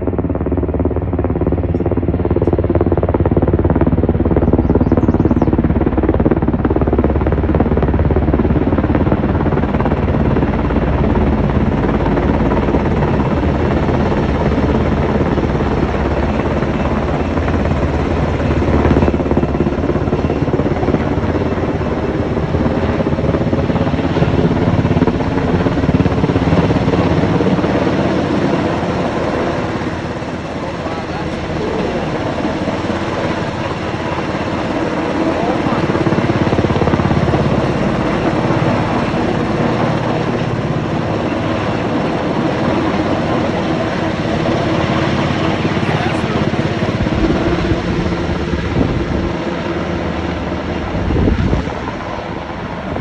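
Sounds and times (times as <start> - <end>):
helicopter hovering overhead: 0.0 - 53.0.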